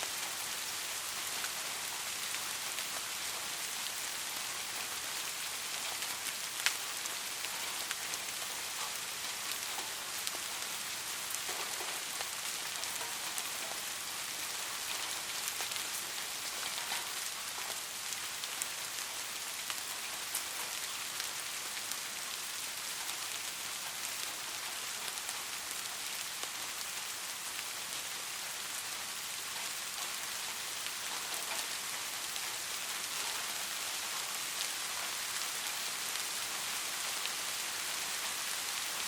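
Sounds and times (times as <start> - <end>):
light rain falling: 0.0 - 39.0.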